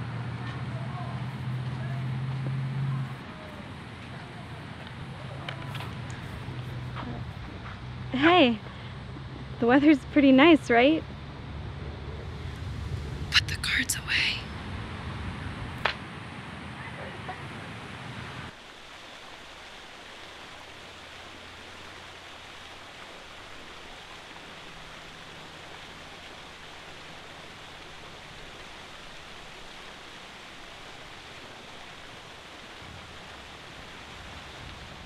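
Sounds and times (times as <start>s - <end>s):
outdoor ambient hiss: 0.0s - 35.0s.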